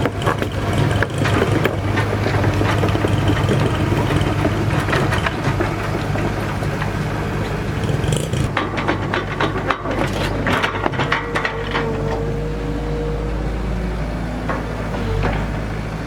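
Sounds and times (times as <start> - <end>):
knocks and clanks: 0.0 - 12.6, 14.4 - 15.8
excavator engine running: 0.0 - 16.0.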